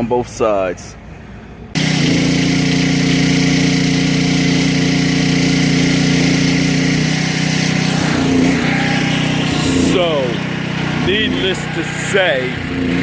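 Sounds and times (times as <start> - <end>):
motor humming: 1.8 - 13.0.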